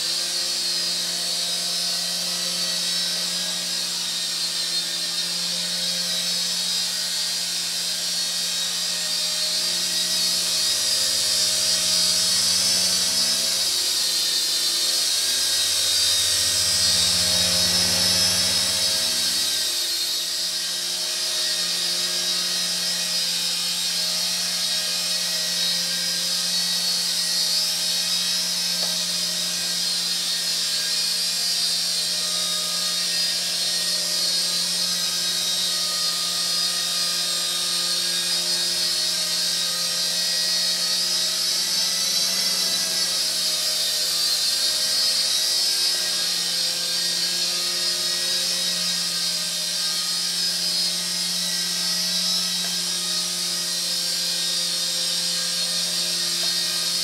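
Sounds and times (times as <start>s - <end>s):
toy helicopter rotors whining: 0.0s - 57.0s.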